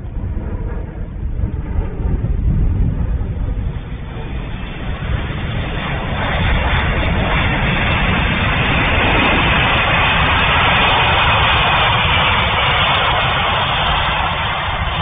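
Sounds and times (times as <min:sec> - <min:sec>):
aircraft engine rush: 0:00.0 - 0:15.0
heavy low rumble: 0:00.0 - 0:15.0.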